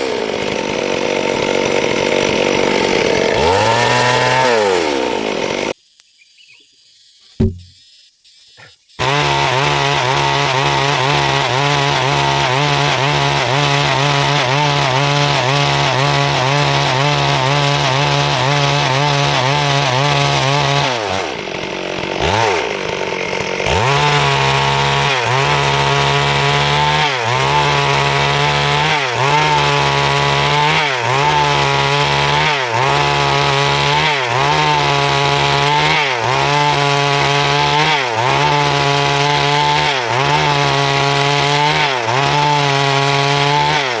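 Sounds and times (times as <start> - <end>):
chainsaw cutting wood: 0.0 - 5.8, 6.9 - 44.0.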